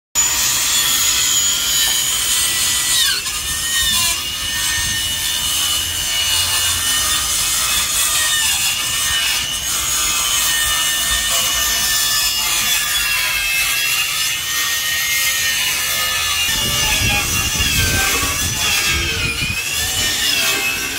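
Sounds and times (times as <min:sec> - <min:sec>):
circular saw cutting: 0:00.2 - 0:20.9.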